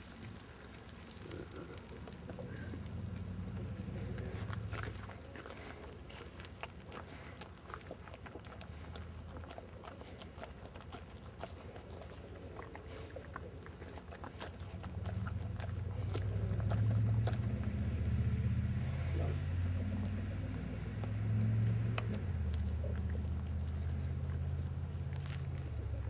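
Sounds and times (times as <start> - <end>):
dog chewing and gnawing: 0.0 - 26.0.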